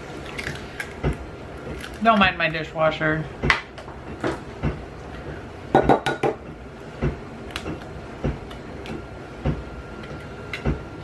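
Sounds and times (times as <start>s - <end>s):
dishwasher running: 0.0s - 11.0s.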